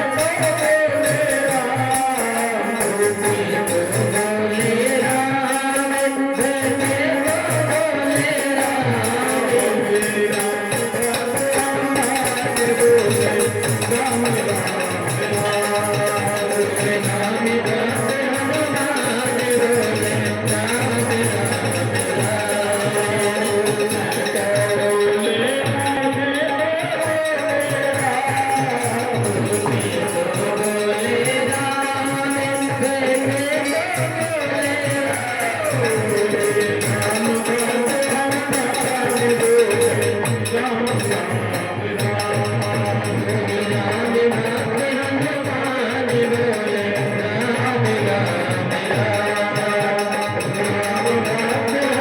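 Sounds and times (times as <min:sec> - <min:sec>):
drum beats: 0:00.0 - 0:52.0
jingling hand percussion: 0:00.0 - 0:52.0
person singing: 0:00.0 - 0:52.0.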